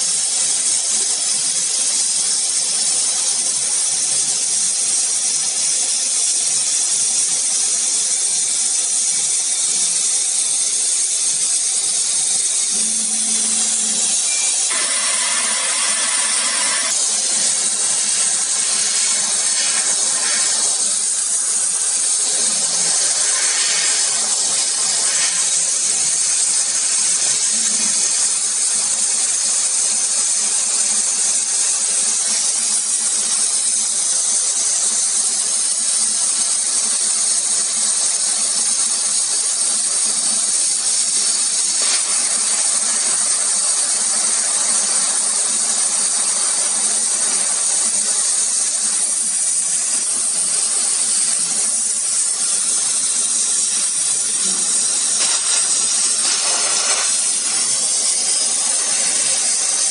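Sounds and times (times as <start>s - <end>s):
laser cutter air hiss: 0.0s - 59.9s.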